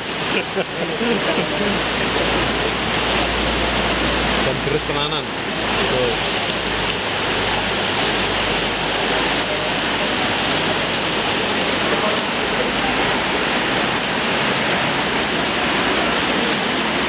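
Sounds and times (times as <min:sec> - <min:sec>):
heavy rain on tent roof: 0:00.0 - 0:17.0.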